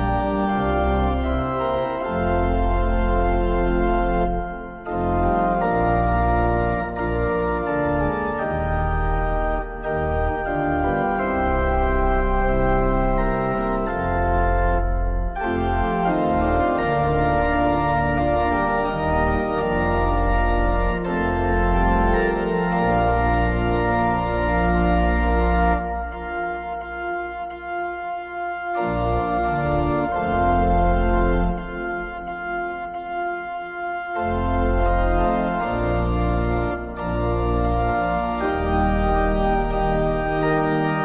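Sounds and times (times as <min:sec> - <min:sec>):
organ playing slow chords: 0:00.0 - 0:41.0.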